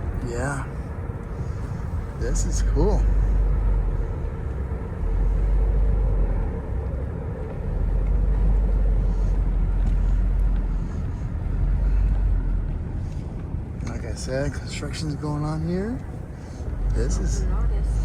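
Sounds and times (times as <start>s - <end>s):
faint steady hum: 0.0s - 18.0s
low steady rumbling: 0.0s - 18.0s.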